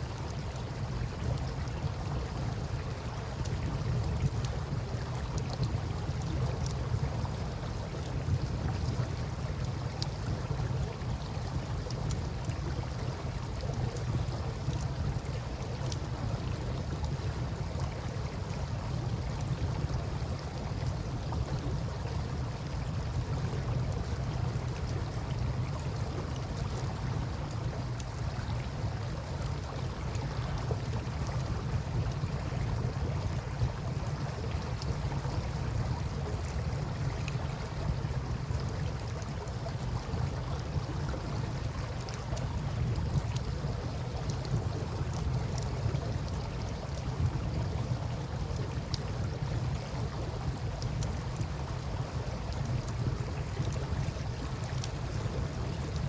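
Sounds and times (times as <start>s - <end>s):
river water flowing: 0.0s - 56.0s
campfire crackling: 0.2s - 56.0s.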